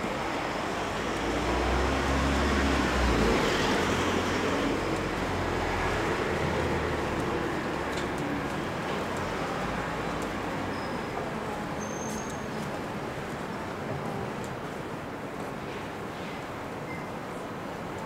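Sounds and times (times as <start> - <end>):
vehicles passing: 0.0 - 16.8
low traffic rumble: 0.0 - 18.0.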